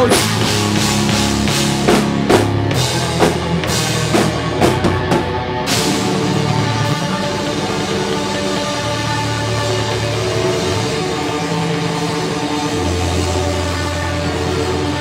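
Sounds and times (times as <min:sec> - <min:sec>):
drum kit with cymbal crashes: 0:00.0 - 0:15.0
electric guitar riff: 0:00.0 - 0:15.0.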